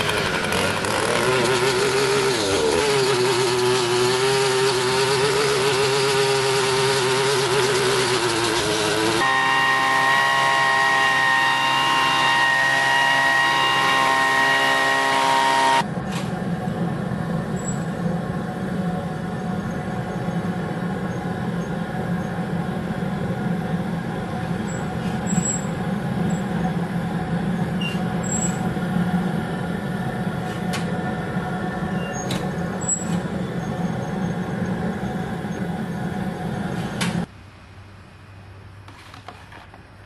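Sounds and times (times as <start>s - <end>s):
engine-driven machinery running: 0.0s - 37.3s.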